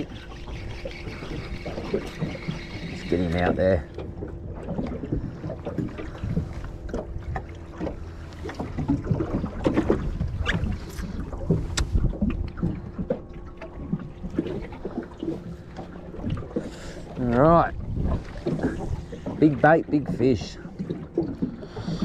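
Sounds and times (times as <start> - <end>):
water against boat hull: 0.0 - 22.0
wind buffeting microphone: 0.0 - 22.0.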